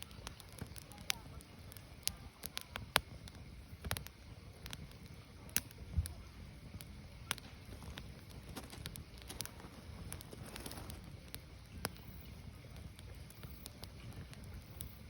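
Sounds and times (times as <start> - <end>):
firewood crackling and popping: 0.0 - 15.0
low rumble of fire: 0.0 - 15.0.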